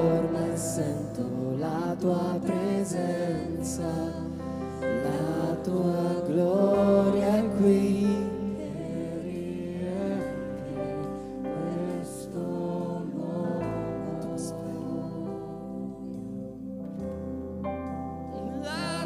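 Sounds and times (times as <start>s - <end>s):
person singing: 0.0s - 16.6s, 18.3s - 19.0s
worship band playing slow song: 0.0s - 19.0s.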